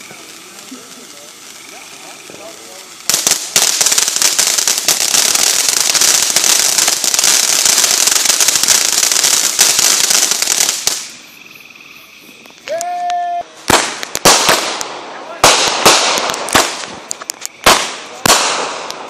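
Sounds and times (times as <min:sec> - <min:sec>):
faint hiss: 0:00.0 - 0:19.0
fireworks crackling: 0:00.0 - 0:19.0.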